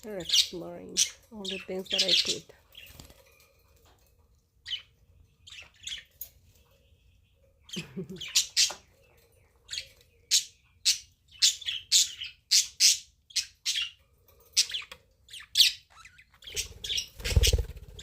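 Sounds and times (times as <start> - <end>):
budgerigars chirping and squawking: 0.0 - 18.0.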